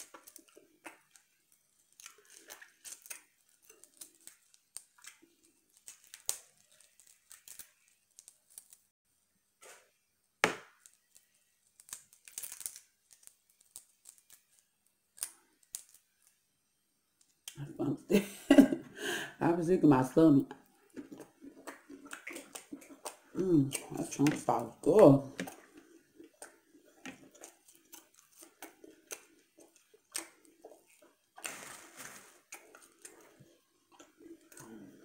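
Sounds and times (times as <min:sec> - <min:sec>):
shrimp shell crackling and snapping: 0:00.0 - 0:08.9, 0:10.4 - 0:16.4, 0:20.7 - 0:35.0.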